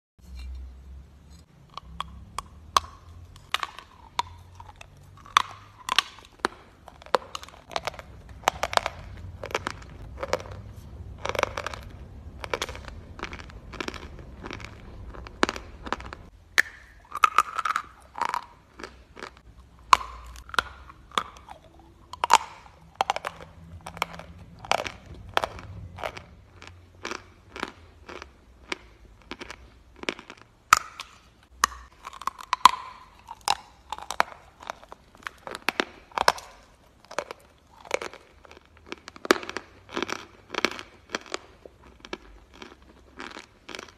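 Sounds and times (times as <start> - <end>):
person crunching chalk: 1.3 - 43.9.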